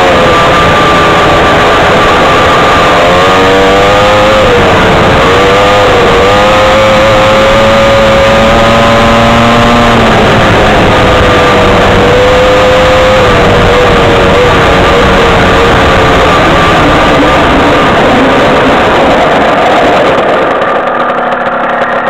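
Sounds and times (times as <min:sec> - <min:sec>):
off-road vehicle engine: 0:00.0 - 0:22.0
track noise: 0:00.0 - 0:22.0
wind on microphone: 0:00.0 - 0:22.0.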